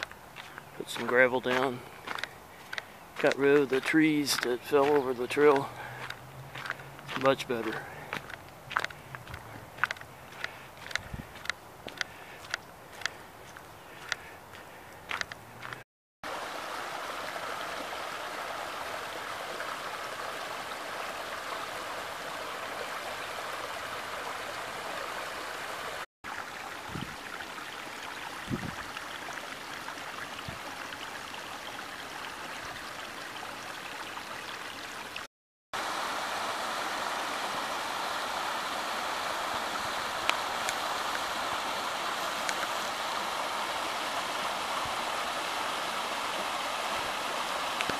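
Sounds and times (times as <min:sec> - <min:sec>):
creek rushing over rocks: 0:00.0 - 0:47.9.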